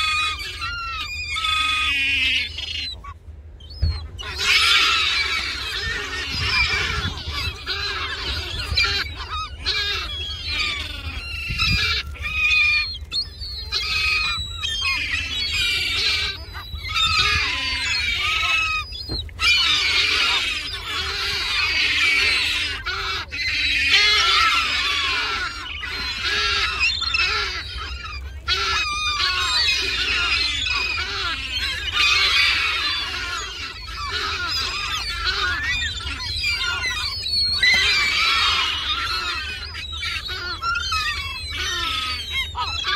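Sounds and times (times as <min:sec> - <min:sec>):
gulls calling: 0:00.0 - 0:42.9.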